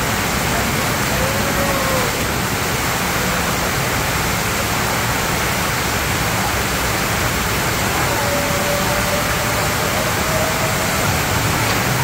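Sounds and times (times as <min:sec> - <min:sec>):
rush of pumped water: 0:00.0 - 0:12.0.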